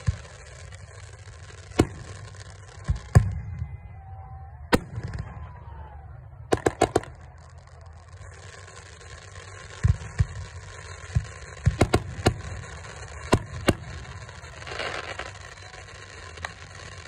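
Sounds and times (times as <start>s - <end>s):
fireworks cracks: 0.0s - 4.1s, 4.7s - 17.0s
fireworks booming: 0.0s - 17.0s.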